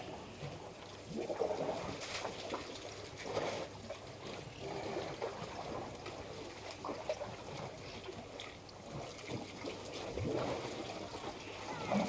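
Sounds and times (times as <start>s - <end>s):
elephants sloshing and splashing water: 0.0s - 12.0s.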